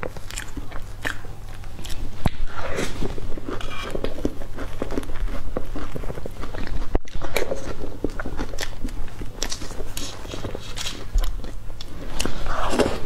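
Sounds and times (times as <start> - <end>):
wet chewing and lip smacking: 0.0 - 13.0.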